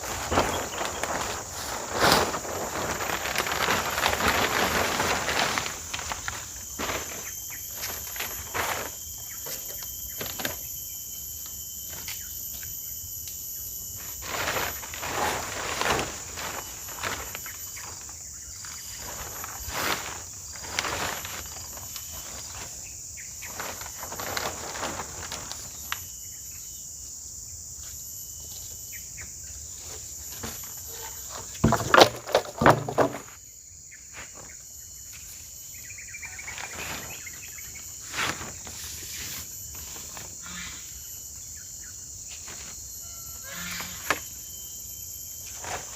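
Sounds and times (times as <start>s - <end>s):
rustles: 0.0s - 26.6s, 27.8s - 45.9s
crickets droning: 0.0s - 45.9s.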